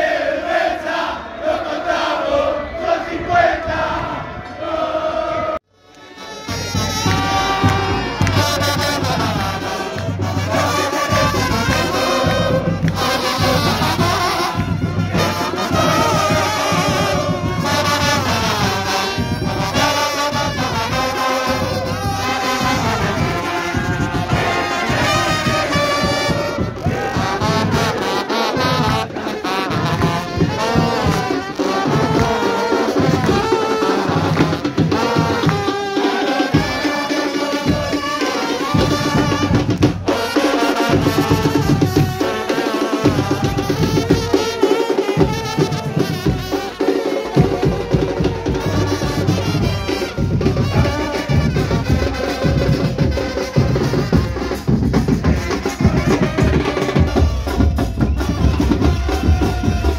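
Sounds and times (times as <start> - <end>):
trumpets playing a tune: 5.6 - 59.9
drums: 6.0 - 59.9.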